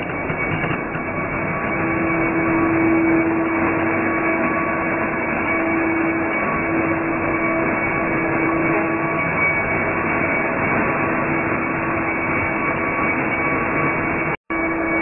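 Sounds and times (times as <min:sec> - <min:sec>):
dense machine noise: 0:00.0 - 0:15.0.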